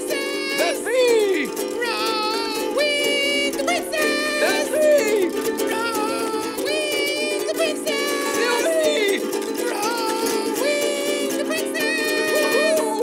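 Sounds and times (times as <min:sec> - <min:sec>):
plucked string instrumental music: 0:00.0 - 0:13.0
sliding melody line: 0:00.0 - 0:13.0.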